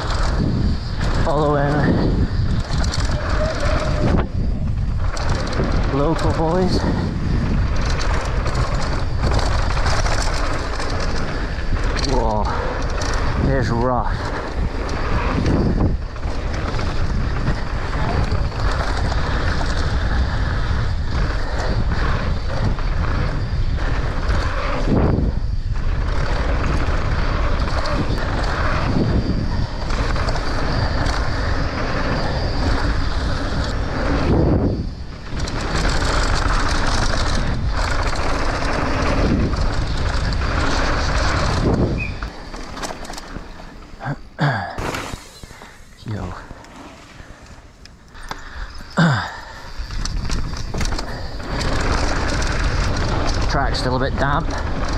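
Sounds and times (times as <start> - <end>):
bike rattling: 0.0 - 54.9
bike tyres on dirt and gravel: 0.0 - 54.9
wind buffeting microphone: 0.0 - 54.9.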